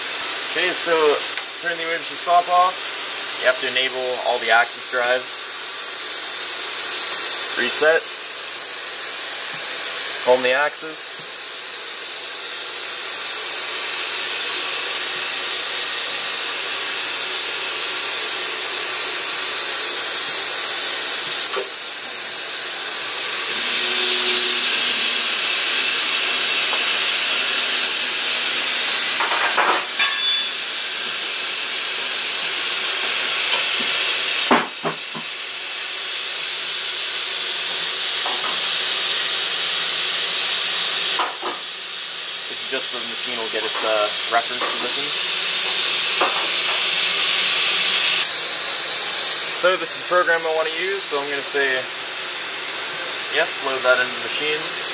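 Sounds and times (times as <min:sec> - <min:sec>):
machine loud steady hiss: 0:00.0 - 0:54.9.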